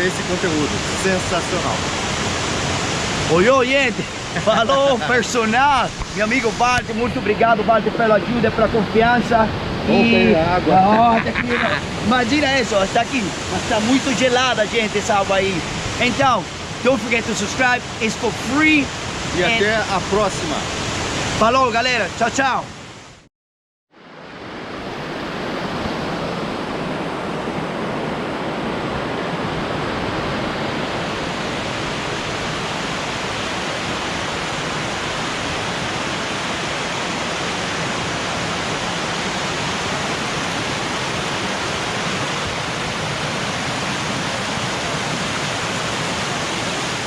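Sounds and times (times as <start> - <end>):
waterfall rushing: 0.0 - 23.1, 28.9 - 47.0.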